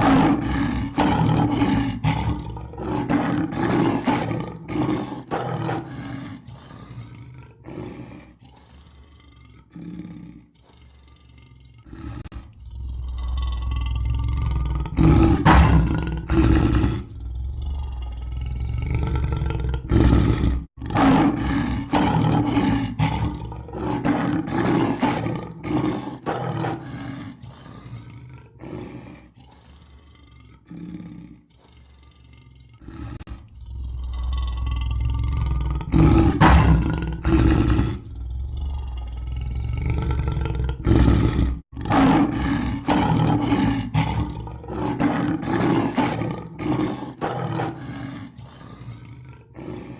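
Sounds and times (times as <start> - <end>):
lion roaring and grunting: 0.0 - 49.9.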